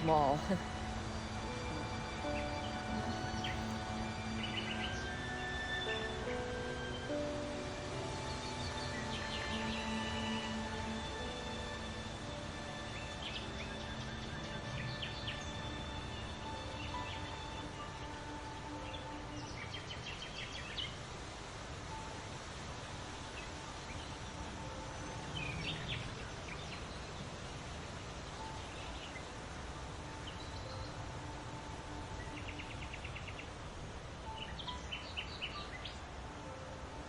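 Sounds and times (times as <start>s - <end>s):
outdoor ambience hiss: 0.0s - 37.0s
songbirds chirping: 0.0s - 37.0s.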